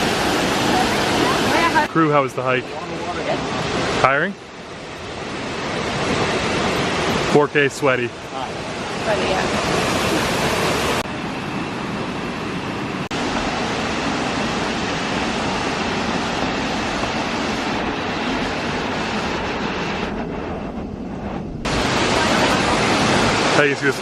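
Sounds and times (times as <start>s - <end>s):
waterfall roaring: 0.0s - 20.1s, 21.7s - 24.0s.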